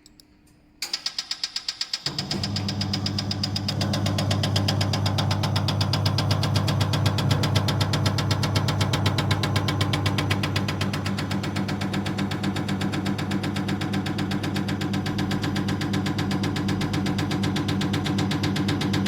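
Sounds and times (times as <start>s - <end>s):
test bench humming: 2.4s - 18.1s.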